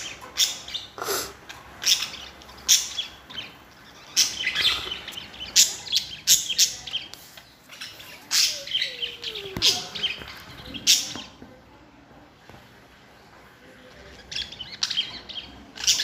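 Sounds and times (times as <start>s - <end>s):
budgerigars chirping: 0.0s - 11.4s, 14.1s - 16.0s.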